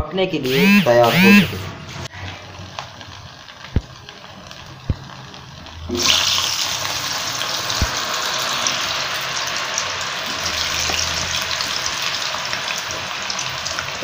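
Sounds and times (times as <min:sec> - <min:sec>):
potatoes sizzling in hot oil: 0:02.1 - 0:14.0.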